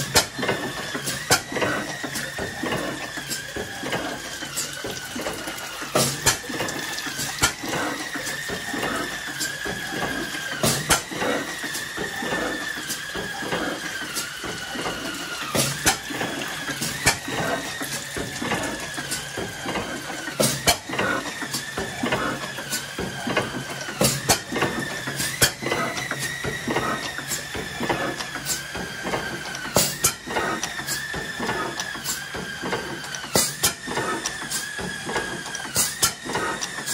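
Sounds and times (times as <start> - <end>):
engine mechanical clatter: 0.0 - 36.9.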